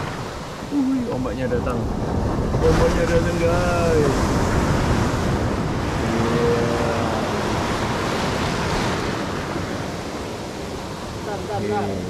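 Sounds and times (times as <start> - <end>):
surf breaking around boat: 0.0 - 12.0
wind buffeting microphone: 0.0 - 12.0.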